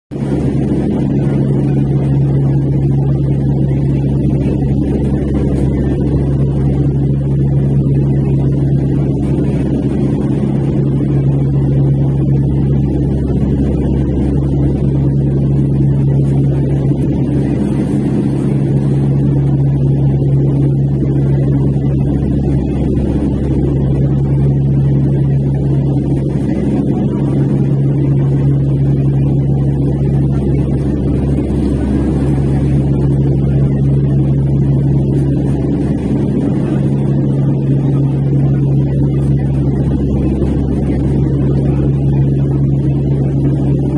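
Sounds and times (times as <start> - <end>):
aircraft engine drone in cabin: 0.1 - 43.9.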